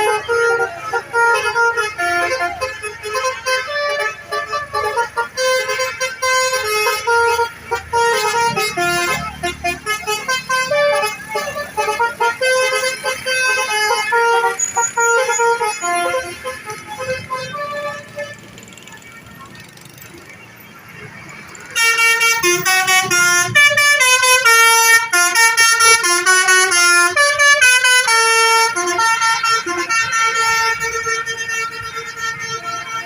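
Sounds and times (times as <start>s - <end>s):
multi-tone bus horns: 0.0s - 33.0s.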